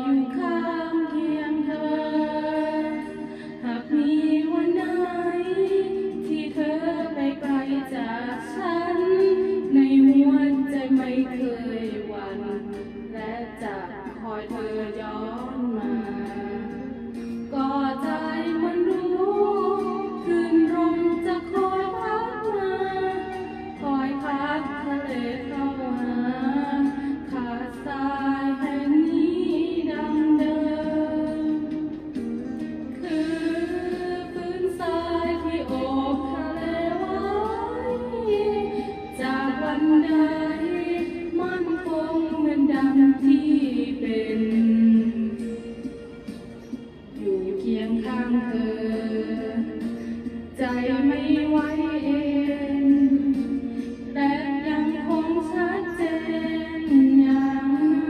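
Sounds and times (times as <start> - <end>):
woman singing into microphone: 0.0 - 46.0, 47.0 - 58.0.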